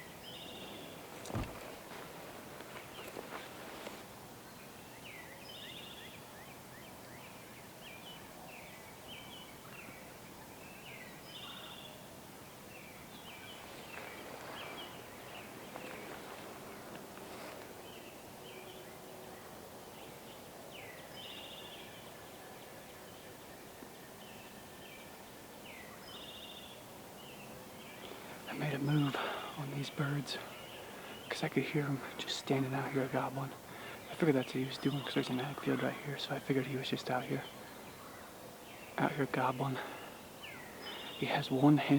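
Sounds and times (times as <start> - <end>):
songbirds chirping: 0.0 - 41.9
steady background hiss: 0.0 - 41.9.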